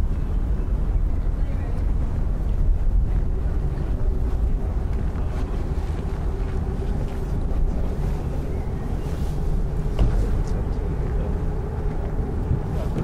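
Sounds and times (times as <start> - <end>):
city ambience rumble: 0.0 - 13.0
wind buffeting microphone: 0.0 - 13.0.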